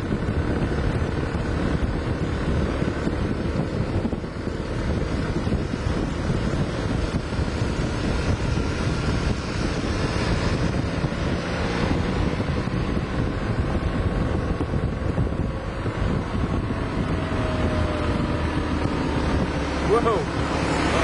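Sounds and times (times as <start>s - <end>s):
low rolling rumble: 0.0s - 21.0s
wind buffeting microphone: 0.0s - 21.0s.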